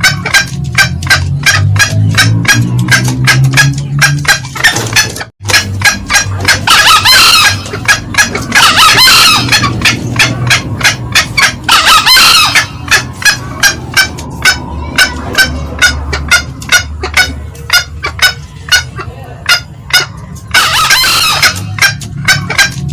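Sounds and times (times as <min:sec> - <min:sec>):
hoarse junglefowl crows: 0:00.0 - 0:22.9
junglefowl clucking cackles: 0:00.0 - 0:22.9.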